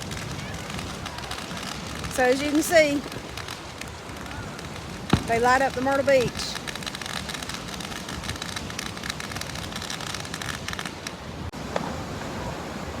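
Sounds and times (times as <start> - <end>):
fireworks crackling: 0.0 - 11.9.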